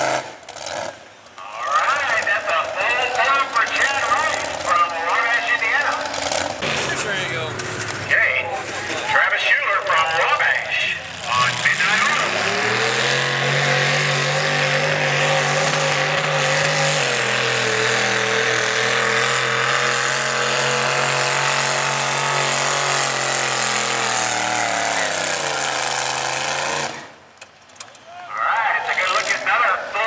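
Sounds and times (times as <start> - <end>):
tractor engine running loud: 1.8 - 27.2.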